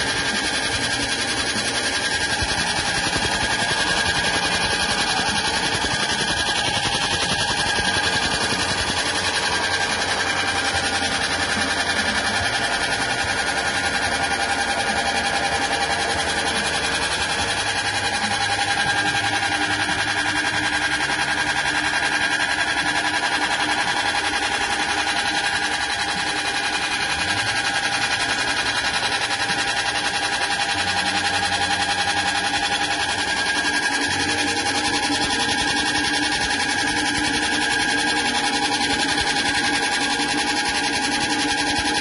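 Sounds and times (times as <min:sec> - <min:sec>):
hull-peeling machine running: 0:00.0 - 0:42.0.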